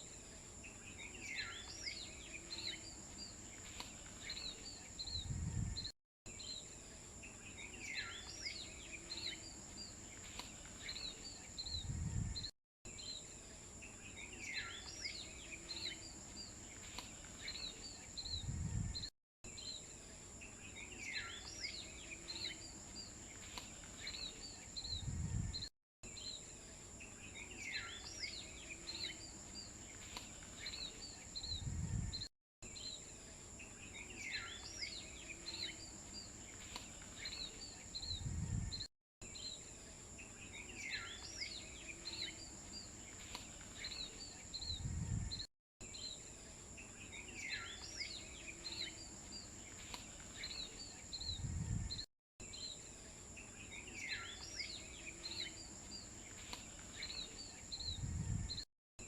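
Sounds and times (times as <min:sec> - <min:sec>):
bird chirps: 0:00.6 - 0:58.6.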